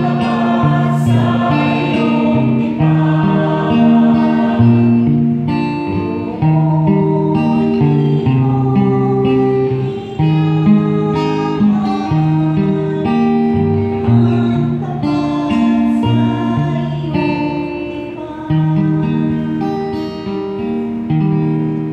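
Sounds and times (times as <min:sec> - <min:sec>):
guitar strumming chords: 0:00.0 - 0:21.9.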